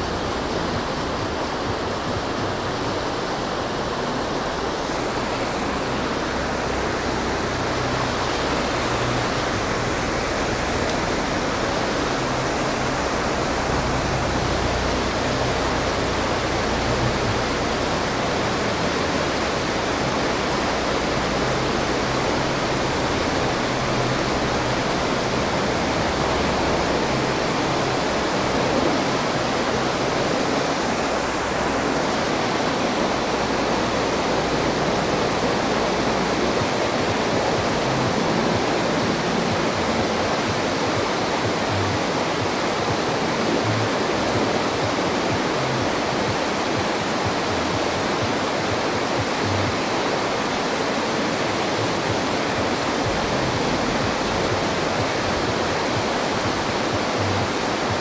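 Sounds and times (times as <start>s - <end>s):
water rushing through dam: 0.0s - 58.0s.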